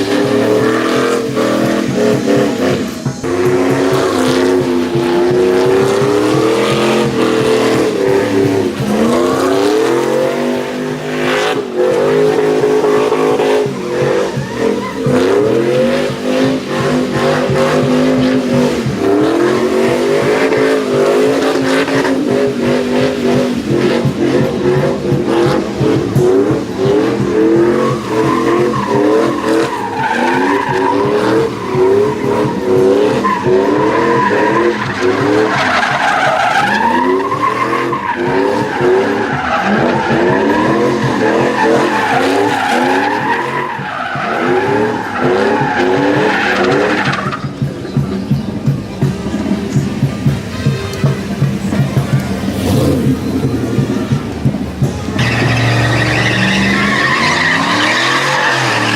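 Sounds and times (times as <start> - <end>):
tyres squealing: 0.0 - 48.6, 51.0 - 58.9
truck engine revving: 0.0 - 58.9.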